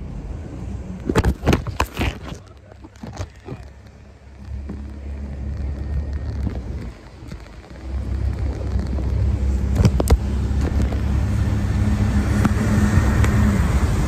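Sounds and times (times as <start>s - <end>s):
boat motor rumbling: 0.0s - 14.0s.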